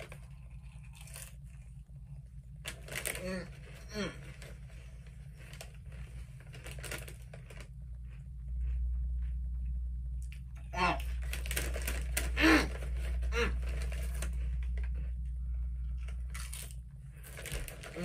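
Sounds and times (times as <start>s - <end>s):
foil bag crinkling: 0.0s - 1.9s, 2.5s - 8.8s, 10.8s - 15.2s, 15.9s - 18.0s
chips crunching while chewed: 0.0s - 9.4s, 10.2s - 15.3s, 15.9s - 18.0s
steady low hum: 0.0s - 18.0s.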